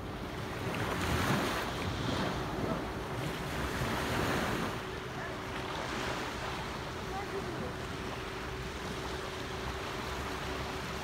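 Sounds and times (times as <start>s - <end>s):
faint steady hum: 0.0s - 11.0s
surf washing on beach: 0.0s - 11.0s.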